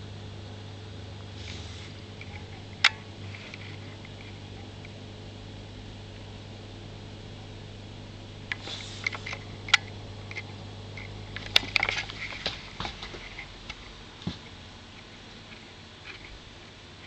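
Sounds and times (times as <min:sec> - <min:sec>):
aquarium equipment hum: 0:00.0 - 0:17.0.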